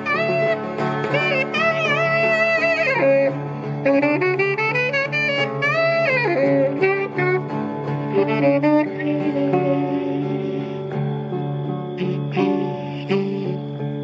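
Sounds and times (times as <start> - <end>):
lute accompaniment: 0.0 - 14.0
saxophone playing jazz melody: 0.0 - 14.0.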